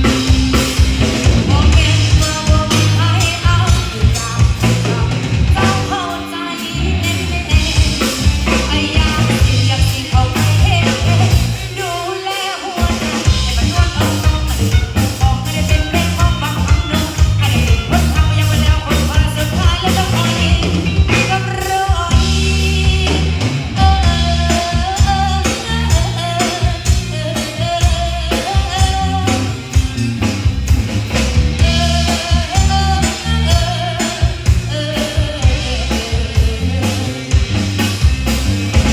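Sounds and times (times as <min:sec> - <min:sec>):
person singing: 0:00.0 - 0:30.3, 0:31.6 - 0:37.9
band playing: 0:00.0 - 0:38.9
bass: 0:00.0 - 0:38.9
drum kit: 0:00.0 - 0:38.9.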